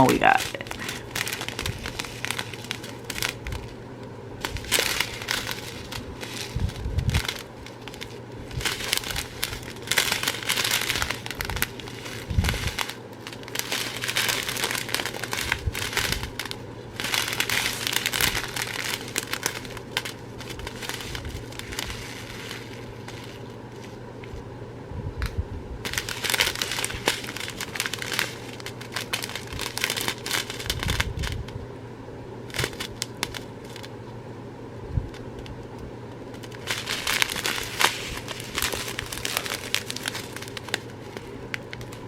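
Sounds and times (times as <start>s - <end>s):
plastic bags crinkling: 0.0s - 3.8s, 4.4s - 24.3s, 25.8s - 31.5s, 32.5s - 33.9s, 36.3s - 42.0s
faint steady hum: 0.0s - 42.0s.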